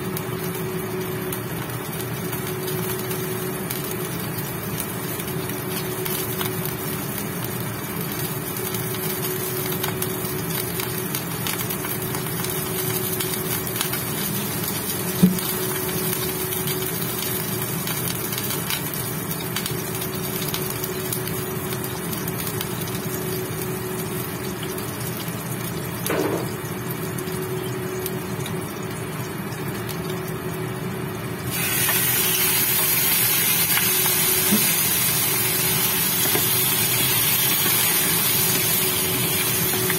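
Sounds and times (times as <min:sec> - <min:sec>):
chicken sizzling in hot oil: 0:00.0 - 0:39.9
induction cooktop humming: 0:00.0 - 0:39.9.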